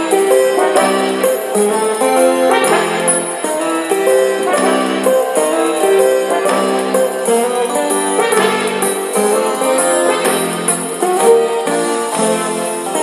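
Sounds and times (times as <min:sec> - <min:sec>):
instrumental music with held chords: 0:00.0 - 0:13.0.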